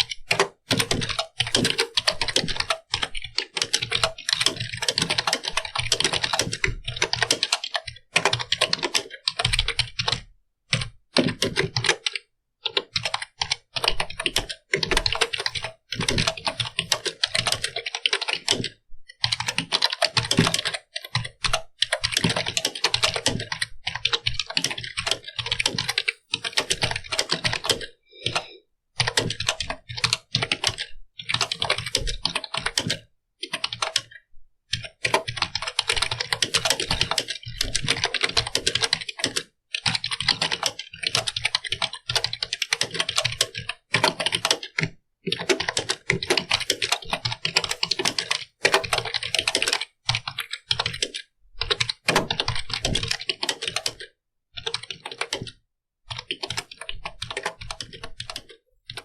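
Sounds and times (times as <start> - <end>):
keyboard typing clicks: 0.0 - 59.0.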